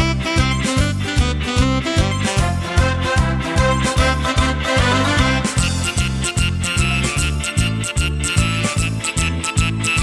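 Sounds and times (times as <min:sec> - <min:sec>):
music with bouncy bass beat: 0:00.0 - 0:10.0.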